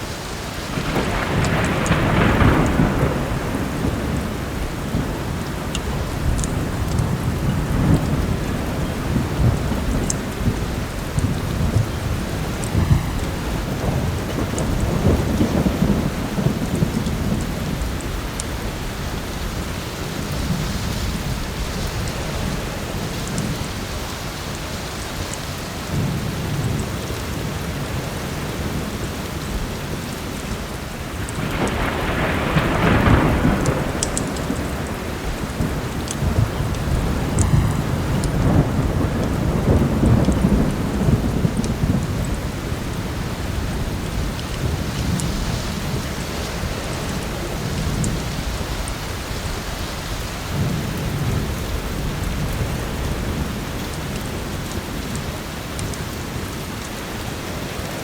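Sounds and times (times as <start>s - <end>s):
rolling thunder: 0.0s - 24.2s, 31.0s - 56.9s
heavy rain falling: 0.0s - 58.0s.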